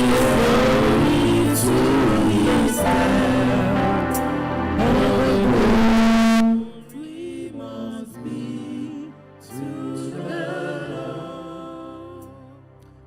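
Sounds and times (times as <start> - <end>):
worship song with singing: 0.0 - 12.9.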